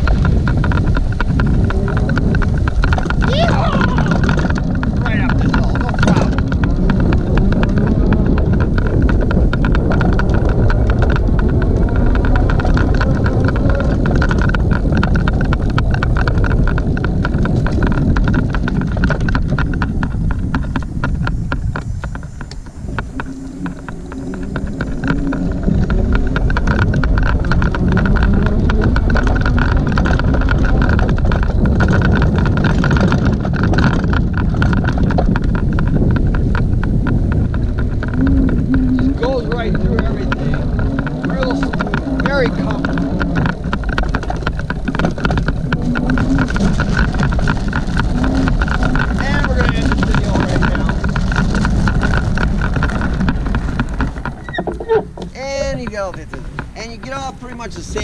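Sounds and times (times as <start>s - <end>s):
bike rumbling over bumpy lawn: 0.0s - 58.0s.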